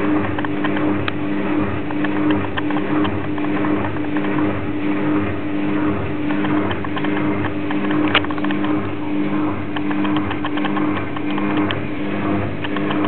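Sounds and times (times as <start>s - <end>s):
noisy water wash: 0.0s - 13.0s
washing machine motor hum: 0.0s - 13.0s.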